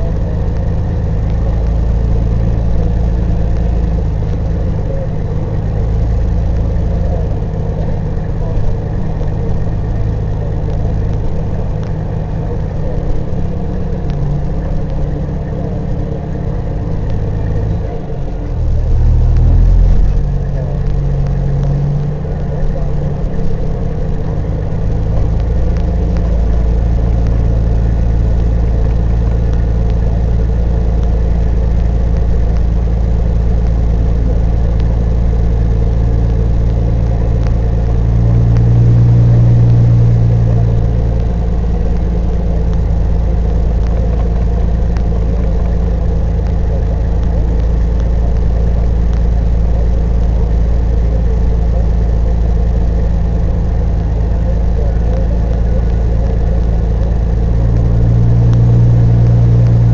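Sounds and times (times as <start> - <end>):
diesel truck engine: 0.0 - 59.9.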